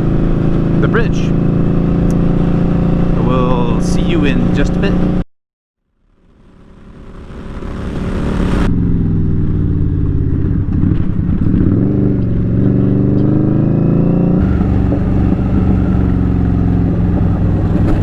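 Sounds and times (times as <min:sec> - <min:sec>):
motorcycle engine running: 0:00.0 - 0:05.2, 0:06.0 - 0:18.0.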